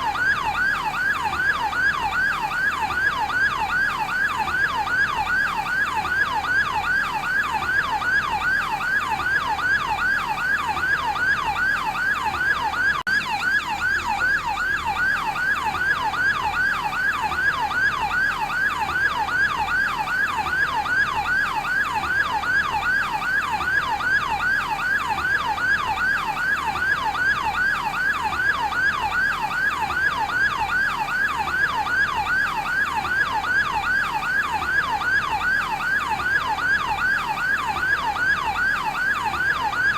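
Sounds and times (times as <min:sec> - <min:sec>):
ambulance yelp siren: 0:00.0 - 0:39.9.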